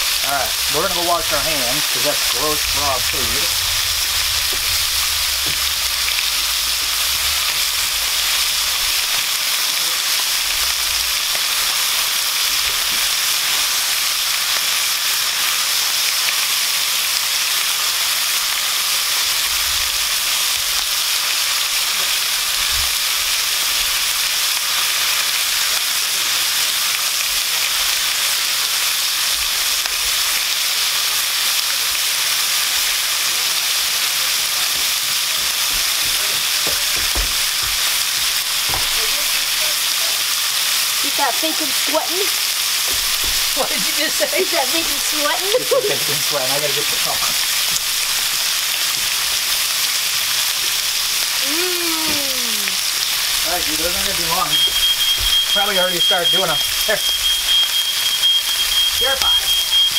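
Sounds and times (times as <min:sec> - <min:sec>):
bacon sizzling on a griddle: 0:00.0 - 0:59.9.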